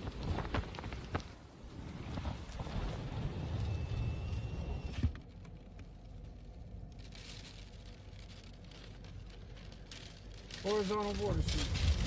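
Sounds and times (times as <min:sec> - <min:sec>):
storm wind rumbling on microphone: 0:00.0 - 0:08.2, 0:08.8 - 0:12.0
wind and rain hiss: 0:00.0 - 0:12.0.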